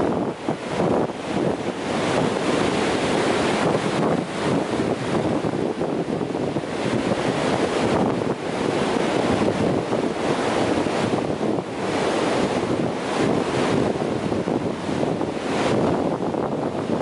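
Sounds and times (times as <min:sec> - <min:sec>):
ocean surf breaking on sand: 0:00.0 - 0:17.0.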